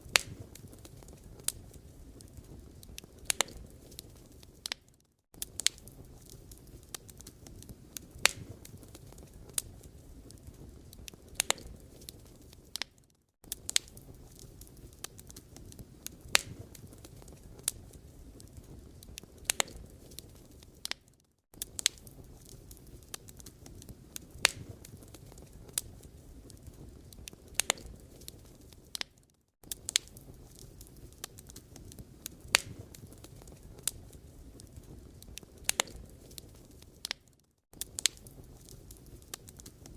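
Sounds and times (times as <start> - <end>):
low rush of flame: 0.0 - 4.8, 5.4 - 12.9, 13.5 - 21.0, 21.6 - 29.0, 29.7 - 37.2
logs crackling and popping: 0.0 - 39.9.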